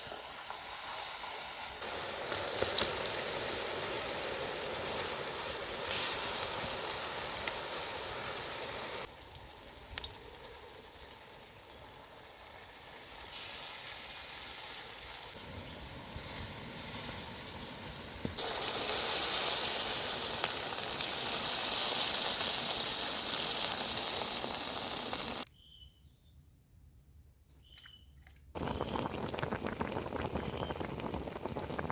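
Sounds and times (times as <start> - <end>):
food sizzling in hot oil: 0.0 - 25.5, 28.6 - 31.9.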